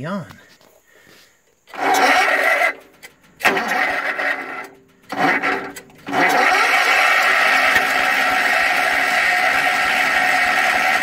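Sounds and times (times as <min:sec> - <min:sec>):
starter cranking diesel engine: 0:01.7 - 0:11.0.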